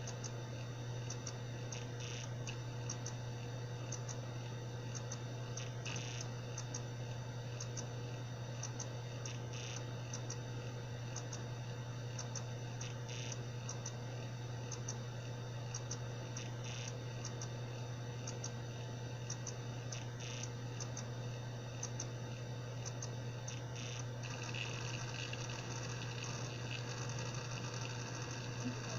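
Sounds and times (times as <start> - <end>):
hard drive clicks and ticks: 0.0 - 28.9
hard drive spindle hum: 0.0 - 28.9.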